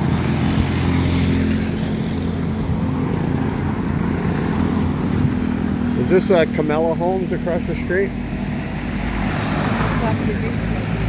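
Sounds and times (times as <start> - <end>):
street traffic: 0.0 - 11.0
vehicle engine humming: 0.0 - 11.0.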